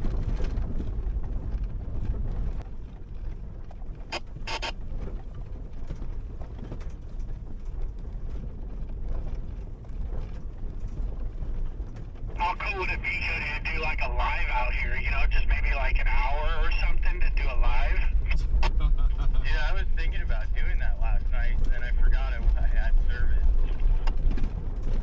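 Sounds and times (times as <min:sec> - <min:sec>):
engine and tyres rumbling: 0:00.0 - 0:25.0.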